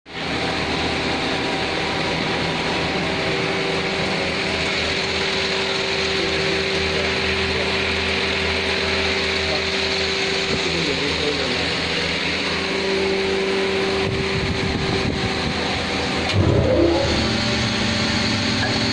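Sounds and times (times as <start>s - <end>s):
lathe machine humming: 0.1s - 18.9s.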